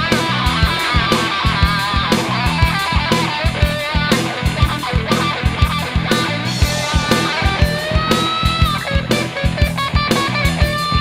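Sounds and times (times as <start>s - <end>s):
bass guitar: 0.0s - 11.0s
drum kit beat: 0.0s - 11.0s
electric guitar playing: 0.0s - 11.0s.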